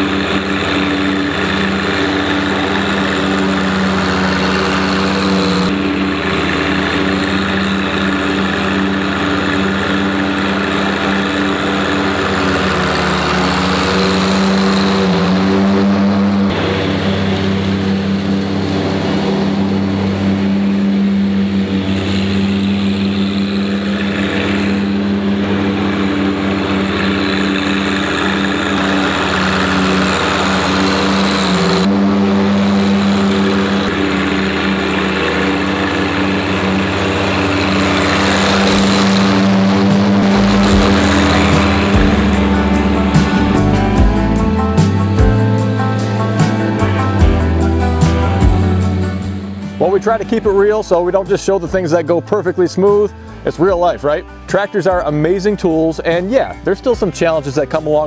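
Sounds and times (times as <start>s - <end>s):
leaf blower rushing hiss: 0.0s - 49.9s
tractor diesel engine running: 0.0s - 58.0s.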